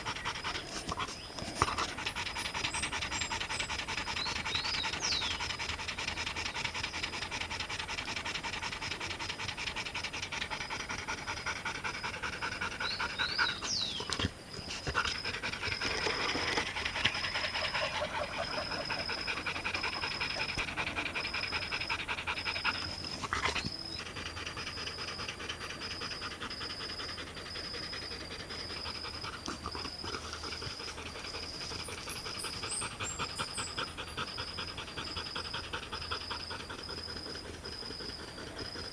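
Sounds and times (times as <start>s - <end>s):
dog panting rapidly: 0.0s - 38.9s.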